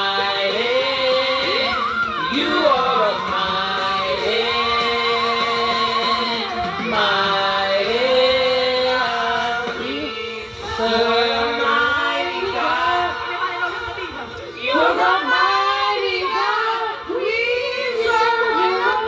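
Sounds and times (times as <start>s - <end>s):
person singing into karaoke microphone: 0.0s - 19.0s.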